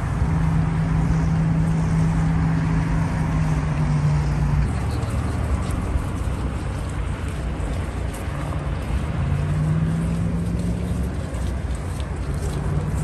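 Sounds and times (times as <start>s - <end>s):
engine drone: 0.0s - 13.0s
traffic rumble: 0.0s - 13.0s.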